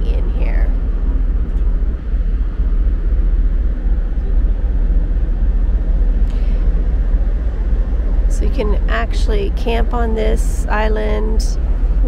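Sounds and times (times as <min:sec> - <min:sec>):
ship engines rumbling: 0:00.0 - 0:12.0.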